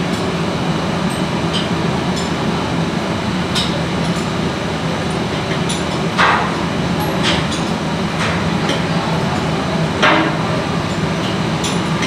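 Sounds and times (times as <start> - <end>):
low machinery drone: 0.0 - 12.0.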